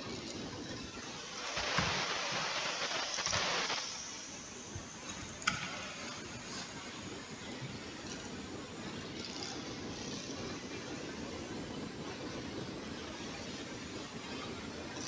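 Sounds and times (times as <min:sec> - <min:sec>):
laptop cooling fan humming: 0:00.0 - 0:15.0.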